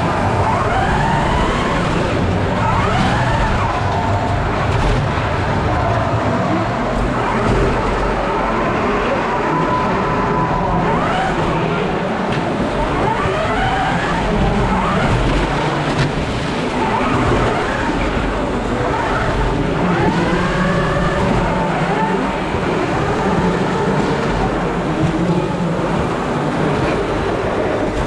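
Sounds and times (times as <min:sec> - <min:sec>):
electric motors whining: 0:00.0 - 0:28.0.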